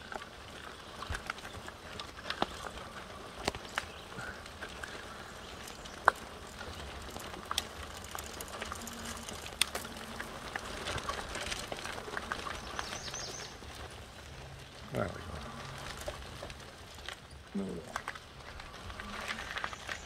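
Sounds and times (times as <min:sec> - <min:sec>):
stones and twigs snapping: 0:00.0 - 0:20.0
tires crunching on stony trail: 0:00.0 - 0:20.0.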